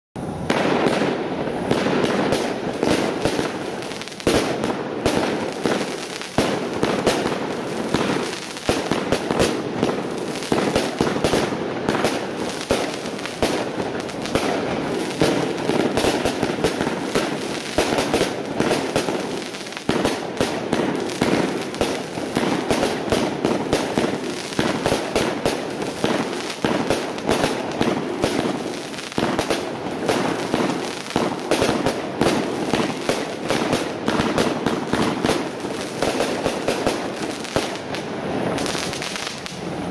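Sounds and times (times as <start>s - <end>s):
fireworks firing and bursting: 0.2s - 39.9s.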